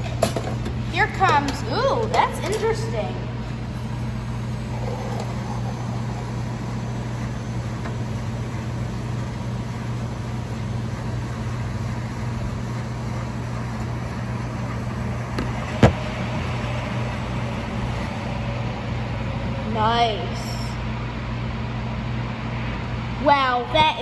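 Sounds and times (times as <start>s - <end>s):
vending machine humming: 0.0s - 21.8s.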